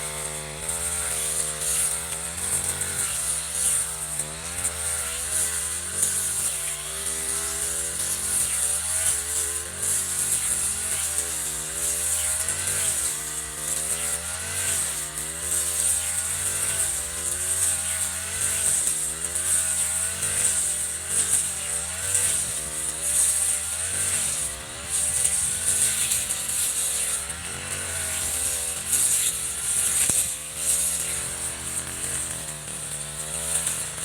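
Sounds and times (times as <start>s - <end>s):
brush cutter engine running: 0.0s - 34.0s.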